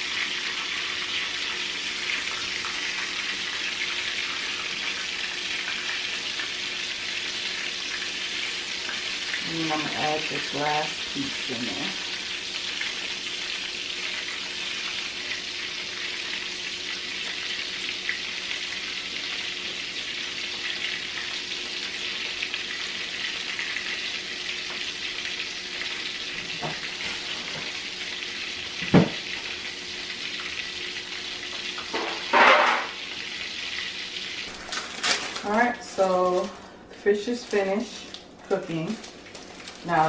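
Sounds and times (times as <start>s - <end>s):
fish sizzling in hot oil: 0.0s - 40.0s.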